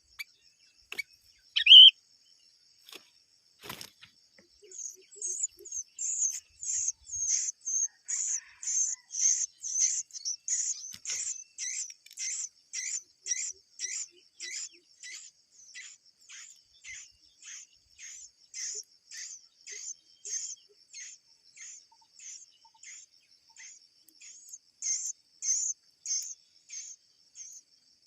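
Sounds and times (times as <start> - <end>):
bird high-pitched calls: 0.9 - 2.0, 4.7 - 27.6.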